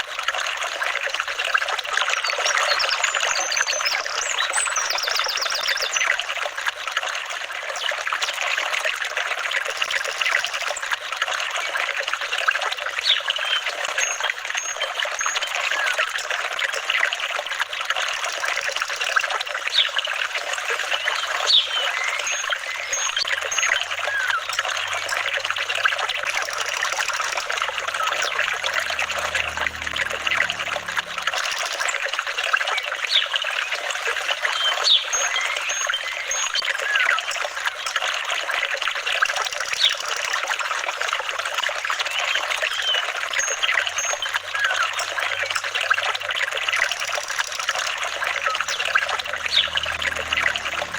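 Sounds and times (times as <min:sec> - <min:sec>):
water trickling and flowing: 0:00.0 - 0:50.9.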